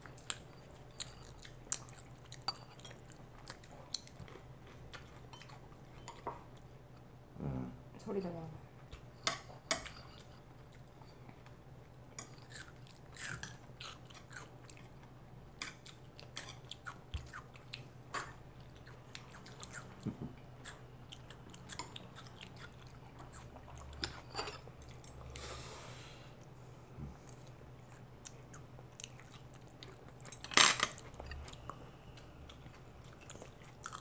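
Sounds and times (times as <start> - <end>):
child chewing and smacking: 0.0 - 7.1, 8.9 - 25.5, 26.4 - 34.0.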